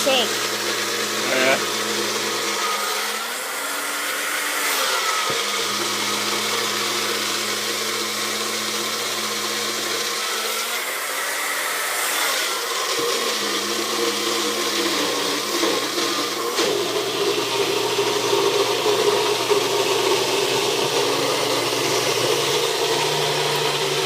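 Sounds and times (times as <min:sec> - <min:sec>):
blender running: 0:00.0 - 0:24.0.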